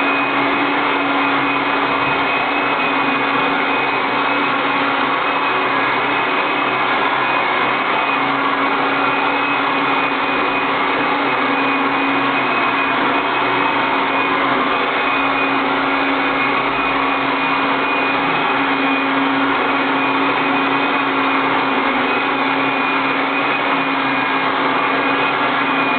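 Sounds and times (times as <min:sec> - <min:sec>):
robot vacuum cleaner running: 0:00.0 - 0:25.9.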